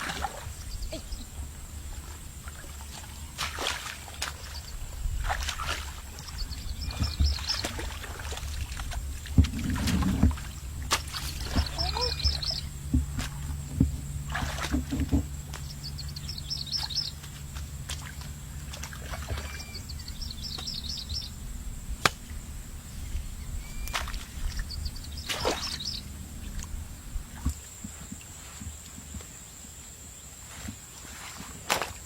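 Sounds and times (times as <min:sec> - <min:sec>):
steady low rumble: 0:00.0 - 0:27.9
water sloshing: 0:00.0 - 0:32.0.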